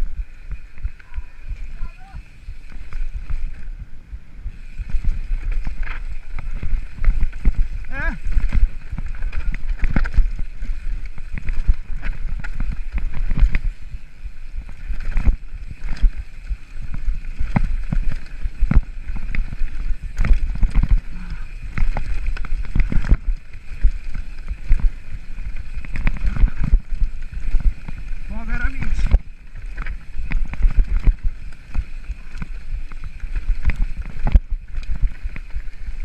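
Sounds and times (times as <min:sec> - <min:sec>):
bike tyres rumbling over gravel: 0:00.0 - 0:36.0
bike clacking on stones: 0:04.8 - 0:36.0.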